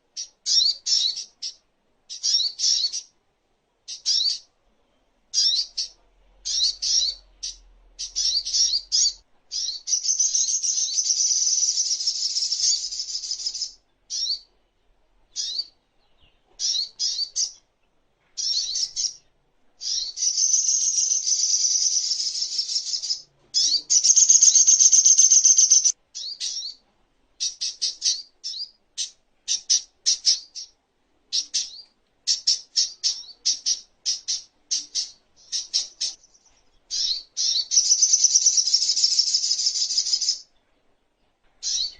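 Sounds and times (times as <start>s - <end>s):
sunbird chirping and trilling: 0.1s - 3.2s, 3.9s - 4.5s, 5.3s - 14.5s, 15.3s - 17.7s, 18.4s - 26.8s, 27.4s - 40.5s, 41.6s - 41.9s.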